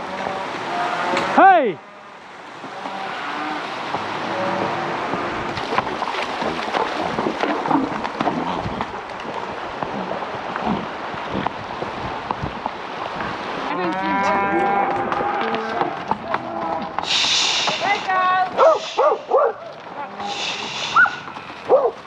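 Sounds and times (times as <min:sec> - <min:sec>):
hooves knocking on trail: 0:00.0 - 0:22.0.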